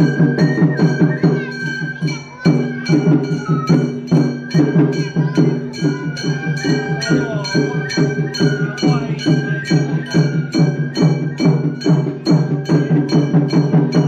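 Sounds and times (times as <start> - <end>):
bamboo flute long notes: 0.0 - 14.0
gongs and drums struck: 0.0 - 14.0.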